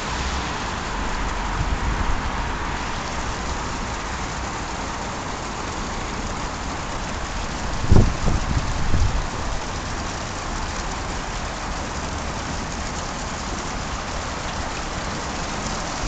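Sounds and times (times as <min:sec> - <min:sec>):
fountain water splashing into pool: 0:00.0 - 0:16.0.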